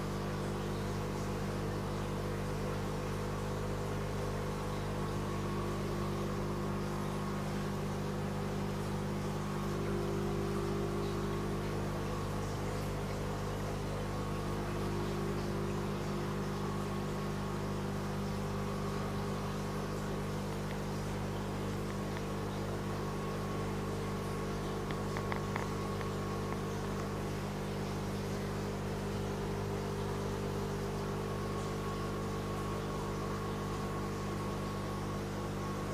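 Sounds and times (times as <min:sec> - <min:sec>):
aquarium air pump humming: 0:00.0 - 0:35.9.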